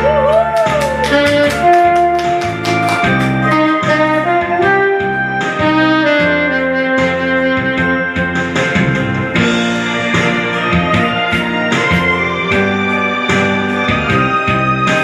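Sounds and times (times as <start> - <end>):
bass keyboard and drums: 0.0 - 15.0
saxophone melody: 0.0 - 15.0.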